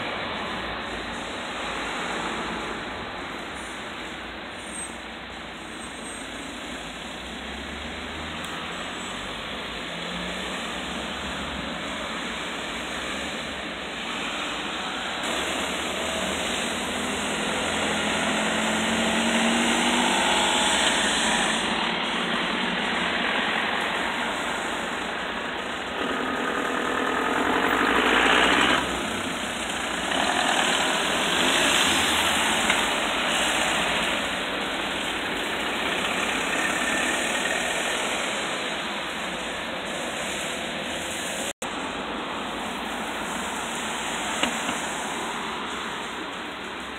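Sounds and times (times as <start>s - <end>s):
cars passing on wet road: 0.0s - 46.9s
tyres hissing on wet asphalt: 0.0s - 46.9s.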